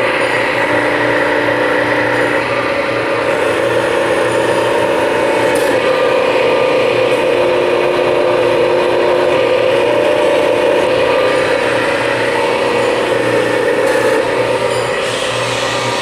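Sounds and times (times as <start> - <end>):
hydraulic pump droning and whining: 0.0 - 16.0.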